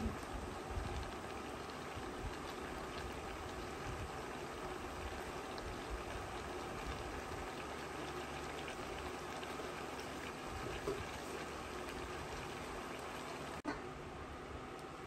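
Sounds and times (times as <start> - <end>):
sauce bubbling and hissing: 0.1 - 13.6.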